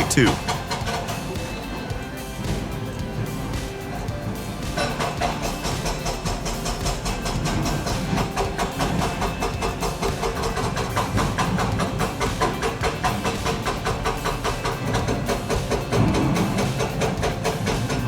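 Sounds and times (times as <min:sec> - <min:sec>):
rhythmic ticking beat: 0:00.0 - 0:18.0.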